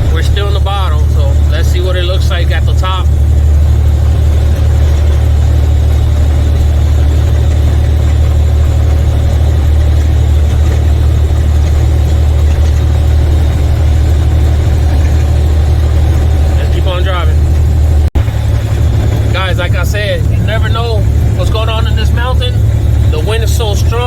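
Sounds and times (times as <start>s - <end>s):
diesel truck engine drone: 0.0s - 24.0s
road and wind noise: 0.0s - 24.0s.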